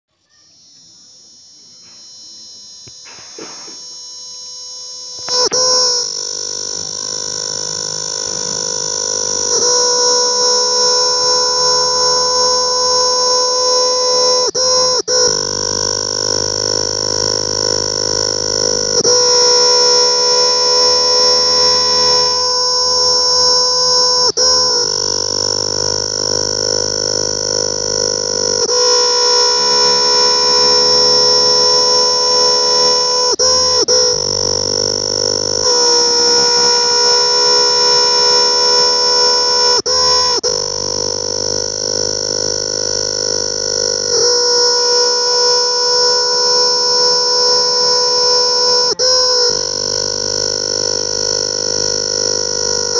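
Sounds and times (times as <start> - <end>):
cicada buzzing: 0.3 - 52.9.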